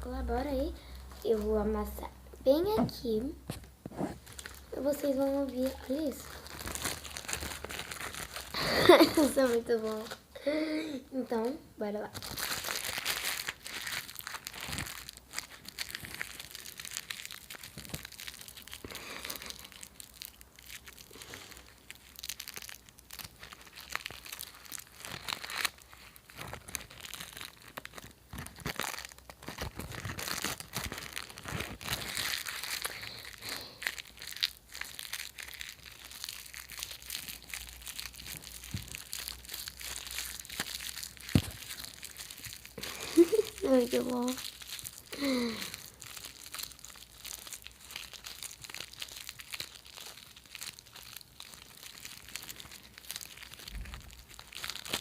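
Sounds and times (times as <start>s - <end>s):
food wrappers being crumpled: 0.0s - 2.1s, 3.0s - 55.0s.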